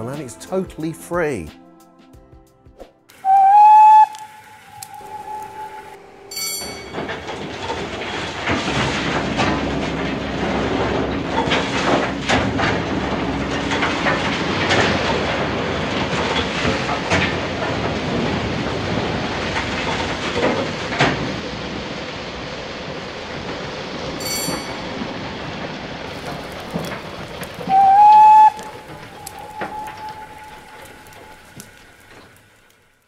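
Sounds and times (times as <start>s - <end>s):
coal sliding down a chute: 3.1s - 33.0s.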